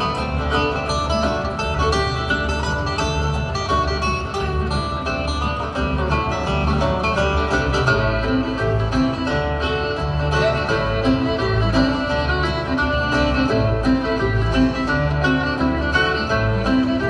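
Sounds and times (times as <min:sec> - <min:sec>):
acoustic guitars: 0:00.0 - 0:17.0
banjo picking: 0:00.0 - 0:17.0
fiddle: 0:00.0 - 0:17.0.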